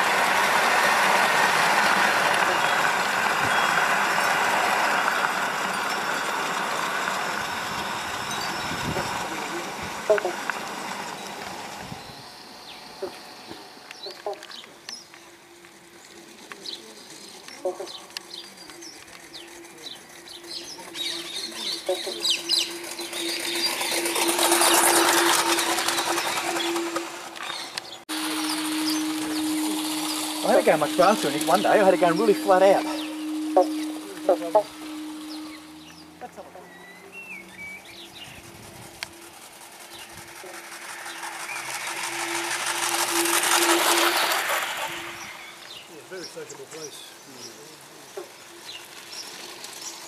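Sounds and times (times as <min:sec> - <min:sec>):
model locomotive clattering on track: 0:00.0 - 0:36.0, 0:38.0 - 0:50.0
steady hum: 0:00.0 - 0:50.0
birds chirping: 0:00.9 - 0:50.0.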